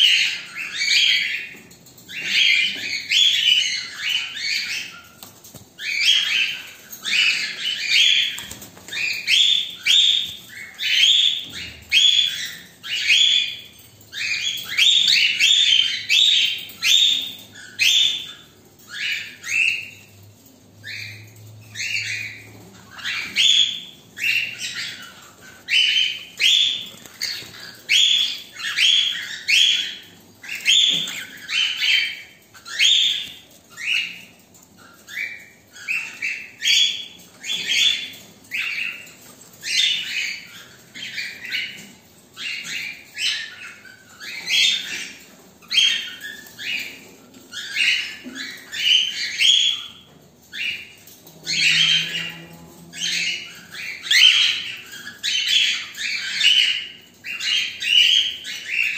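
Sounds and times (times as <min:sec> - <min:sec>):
cockatiels chirping harshly: 0:00.0 - 0:58.9.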